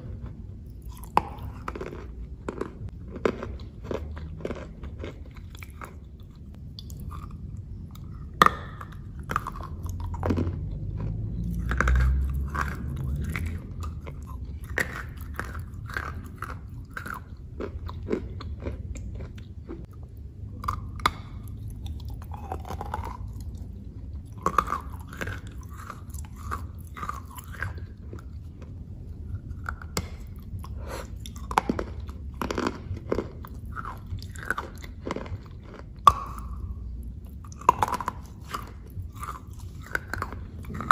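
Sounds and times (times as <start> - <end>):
crunching and chewing pastry: 0.0 - 40.9.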